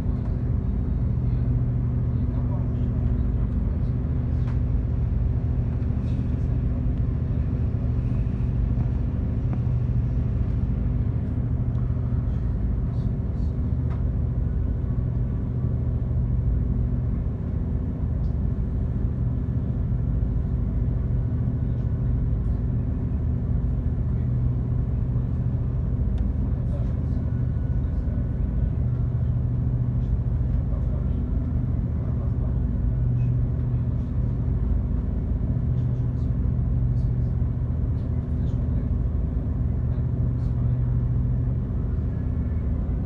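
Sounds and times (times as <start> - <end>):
ferry engines droning: 0.0 - 43.0.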